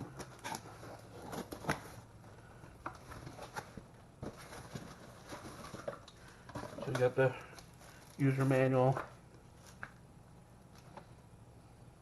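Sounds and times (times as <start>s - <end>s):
packaging clicks and rustles: 0.0s - 10.0s.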